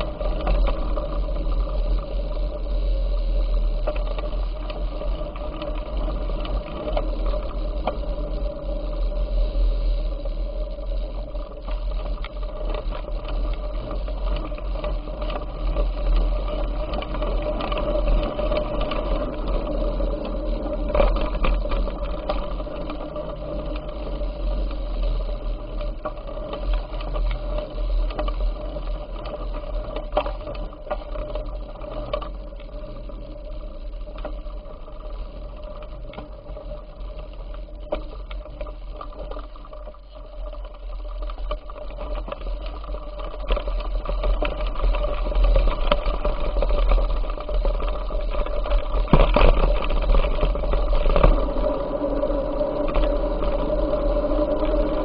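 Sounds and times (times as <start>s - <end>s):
bicycle drivetrain whirring and rattling: 0.0s - 55.0s
small clicks: 0.0s - 55.0s
wind rumble on microphone: 0.0s - 55.0s.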